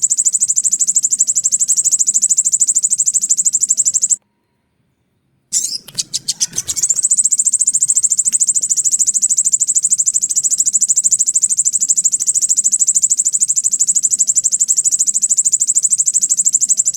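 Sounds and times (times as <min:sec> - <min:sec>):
high-pitched buzzing bird trill: 0:00.0 - 0:04.2, 0:05.6 - 0:16.9.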